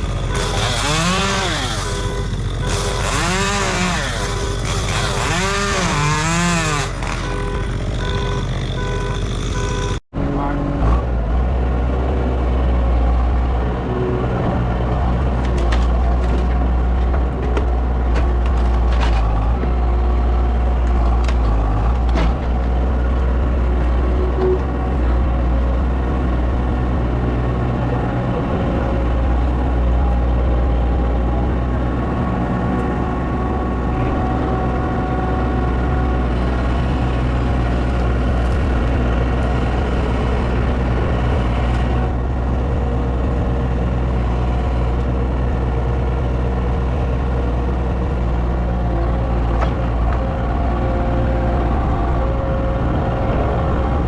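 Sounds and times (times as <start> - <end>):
heavy engine running: 0.0 - 54.0.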